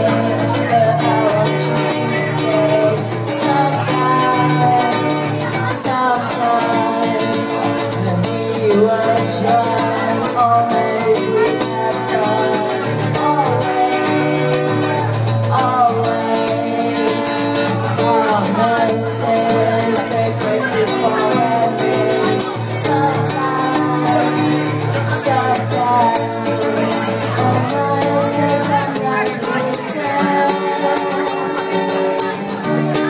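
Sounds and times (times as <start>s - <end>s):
acoustic guitar: 0.0s - 33.0s
woman singing into a microphone: 0.0s - 33.0s.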